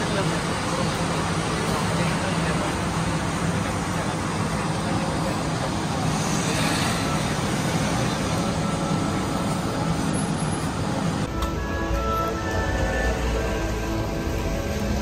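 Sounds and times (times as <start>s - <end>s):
moving vehicle road noise: 0.0s - 15.0s.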